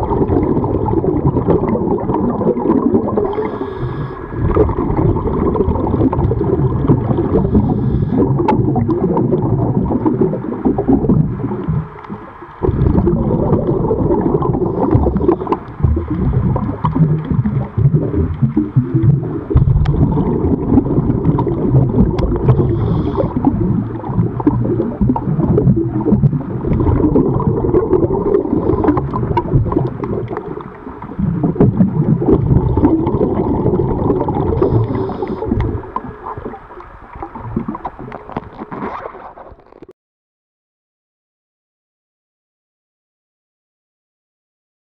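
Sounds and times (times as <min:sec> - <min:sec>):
underwater rumbling and bubbles: 0:00.0 - 0:39.9.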